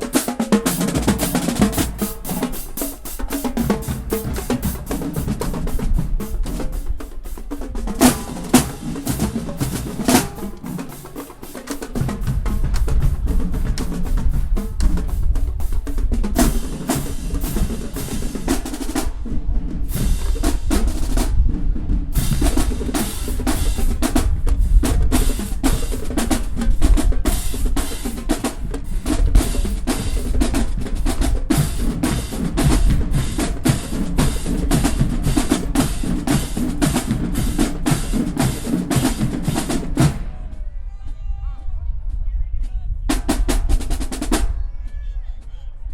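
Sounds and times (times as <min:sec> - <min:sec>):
snare and bass drums: 0:00.0 - 0:40.7, 0:42.1 - 0:45.5.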